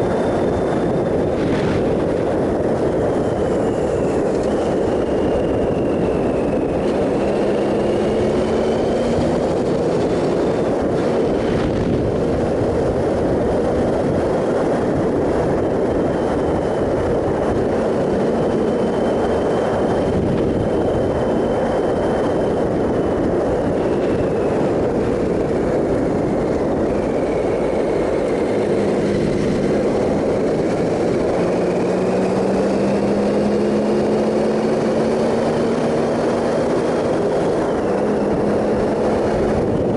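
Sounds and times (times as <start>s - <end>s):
motorcycle engine running: 0.0s - 39.9s
wind noise rushing: 0.0s - 39.9s.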